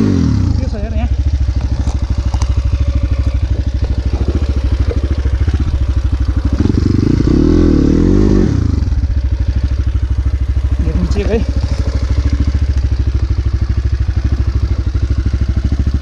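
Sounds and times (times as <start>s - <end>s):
dirt bike engine idling and revving: 0.0s - 16.0s.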